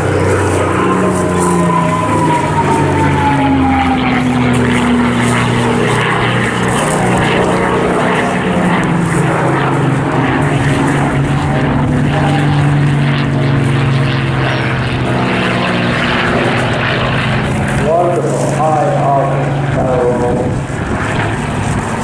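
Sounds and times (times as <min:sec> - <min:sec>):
propeller planes droning overhead: 0:00.0 - 0:22.0.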